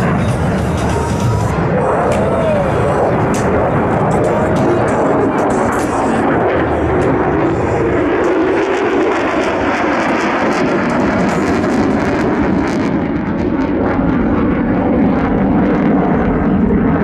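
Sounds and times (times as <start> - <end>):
jet engine crackling roar: 0.0 - 17.0.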